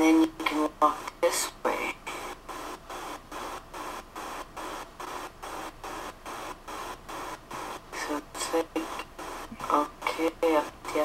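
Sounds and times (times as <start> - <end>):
pulsing hiss: 0.5 - 11.0.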